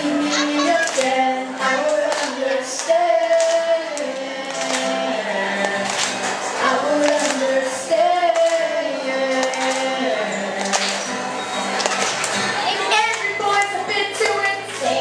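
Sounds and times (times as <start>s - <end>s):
acoustic guitar strumming: 0.0s - 15.0s
young voices singing: 0.0s - 15.0s.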